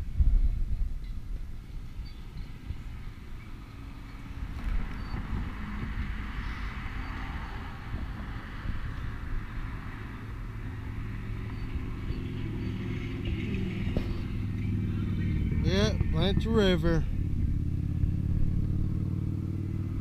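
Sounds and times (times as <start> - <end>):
wind rumbling on microphone: 0.0 - 20.0
cars passing: 1.4 - 20.0.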